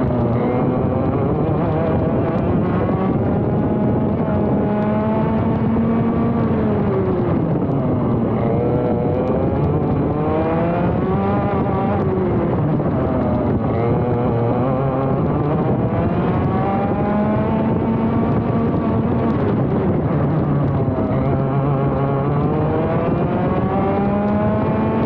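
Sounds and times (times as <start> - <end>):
two-stroke kart engine revving: 0.0 - 25.0.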